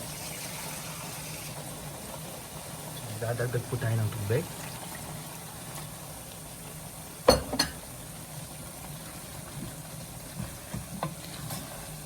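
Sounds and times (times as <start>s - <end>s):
food cooking in a pan: 0.0s - 12.0s.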